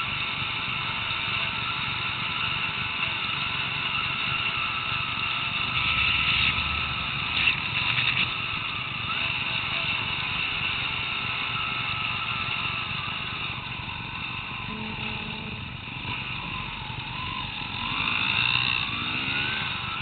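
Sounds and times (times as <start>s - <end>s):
dirt bike engine accelerating: 0.1s - 20.0s.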